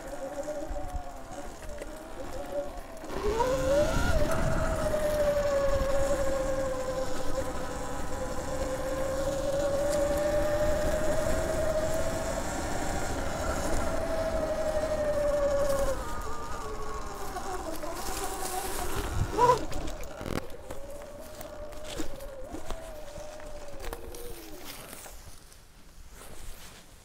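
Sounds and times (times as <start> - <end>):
electric motorbike motor whining: 0.0 - 25.3
wind rumbling on microphone: 0.0 - 25.4.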